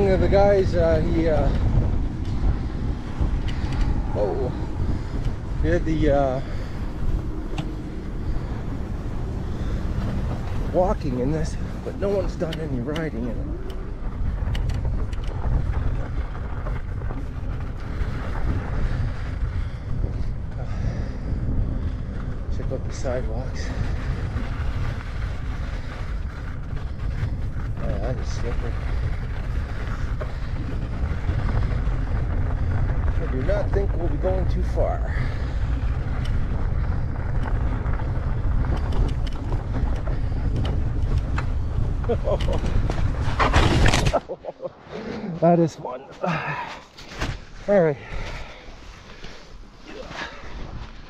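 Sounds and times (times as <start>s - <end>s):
bike ride vibration rumble: 0.0s - 45.3s, 47.3s - 51.0s
wind buffeting microphone: 0.0s - 51.0s.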